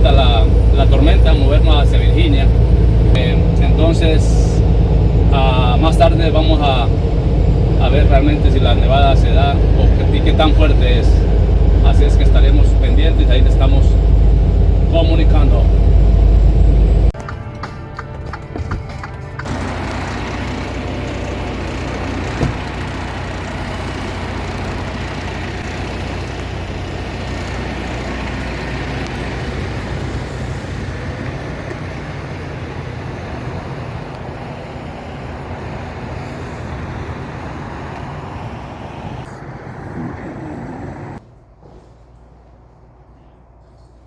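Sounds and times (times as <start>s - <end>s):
road noise: 0.0s - 44.0s
truck engine drone: 0.0s - 44.0s.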